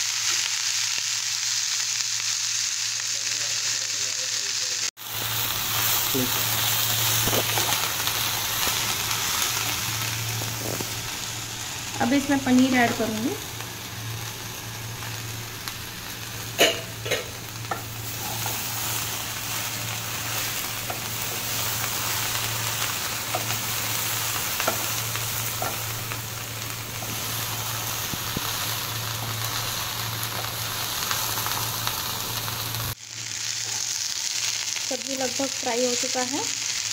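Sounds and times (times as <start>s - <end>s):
vegetables sizzling in oil: 0.0s - 36.9s.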